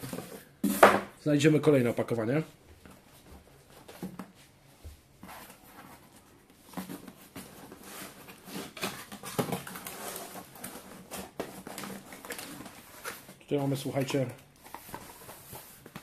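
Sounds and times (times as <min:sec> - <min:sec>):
hands handling cardboard box: 0:02.8 - 0:16.0.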